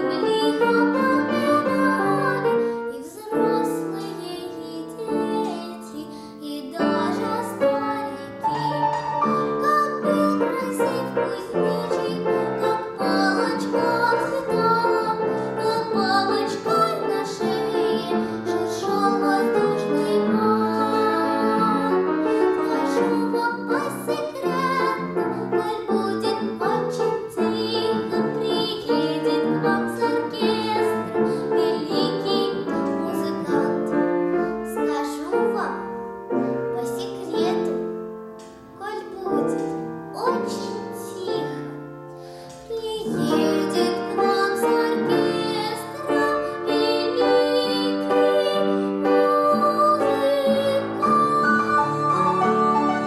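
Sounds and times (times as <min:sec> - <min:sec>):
girl singing classical style: 0:00.0 - 0:53.0
piano accompaniment: 0:00.0 - 0:53.0.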